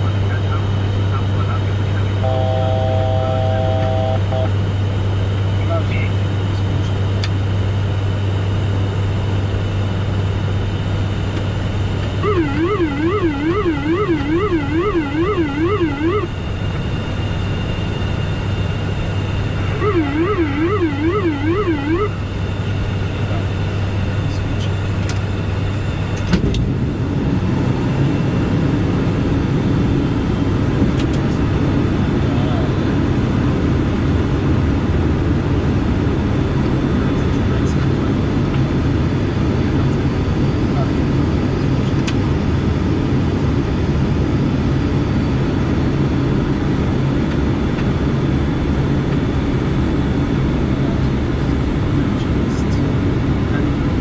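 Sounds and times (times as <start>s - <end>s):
turboprop engines humming: 0.0s - 54.0s.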